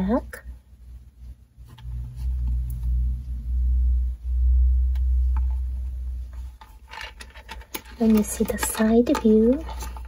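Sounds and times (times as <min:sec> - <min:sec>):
low rumble of handling noise: 0:00.3 - 0:10.0.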